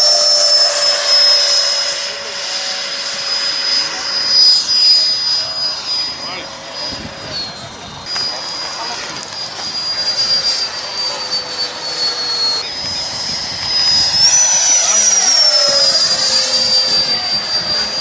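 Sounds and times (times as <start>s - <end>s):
model jet engine whining: 0.0s - 18.0s.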